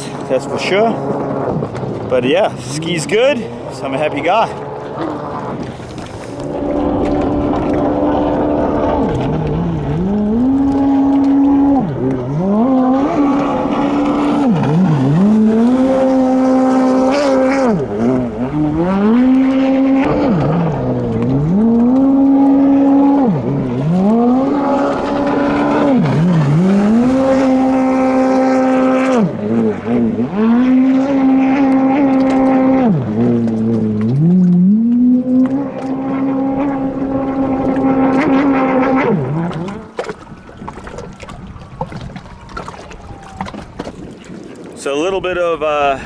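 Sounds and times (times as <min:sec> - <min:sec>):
jet ski engine revving: 0:00.0 - 0:46.0.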